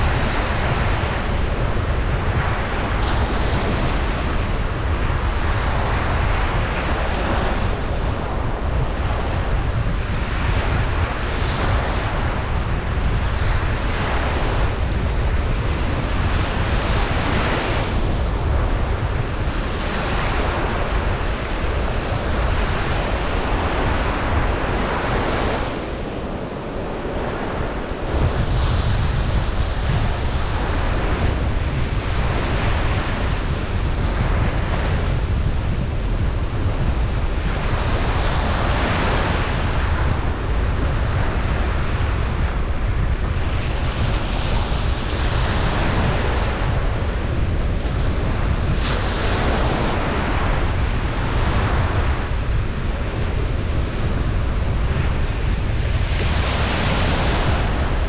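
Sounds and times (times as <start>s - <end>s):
ocean surf breaking on beach: 0.0s - 58.0s
wind rumble on microphone: 0.0s - 58.0s.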